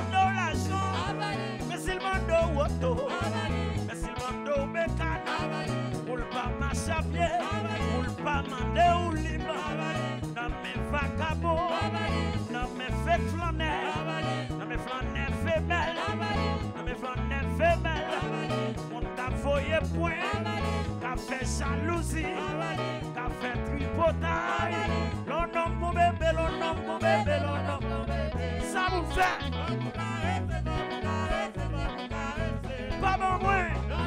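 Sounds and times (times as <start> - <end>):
acoustic swing band music: 0.0 - 34.0
bass line: 0.0 - 34.0
person singing: 0.0 - 34.0.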